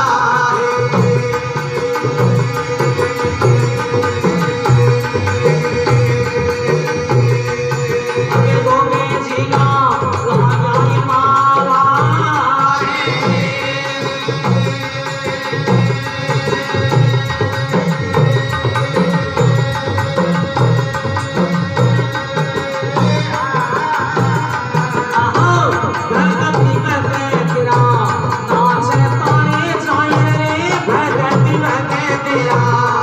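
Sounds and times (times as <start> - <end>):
hand drum beat: 0.0 - 33.0.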